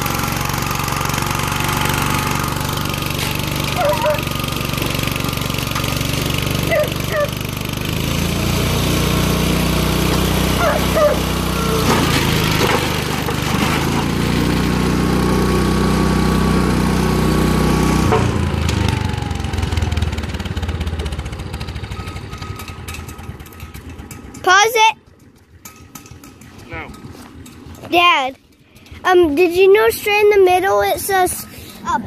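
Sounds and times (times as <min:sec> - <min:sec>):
engine knocks: 0:00.0 - 0:31.8
small gasoline engine running: 0:00.0 - 0:32.0.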